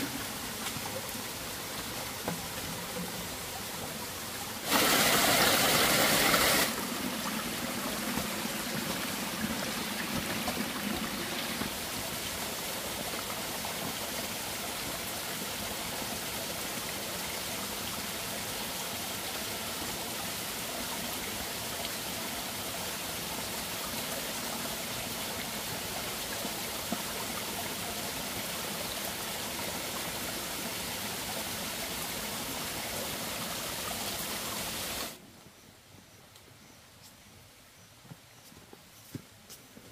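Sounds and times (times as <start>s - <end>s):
stream water rushing: 0.0s - 35.2s.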